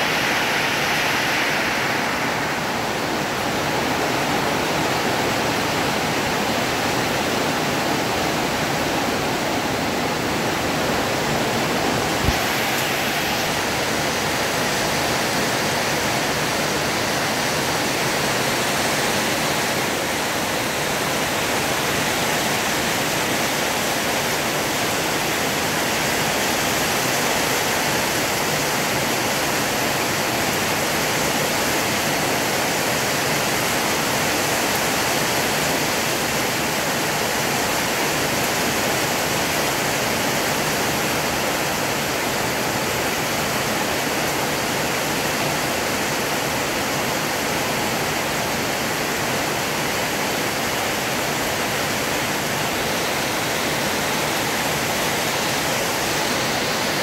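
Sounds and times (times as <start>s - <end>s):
heavy rain on metal roofs: 0.0s - 57.0s.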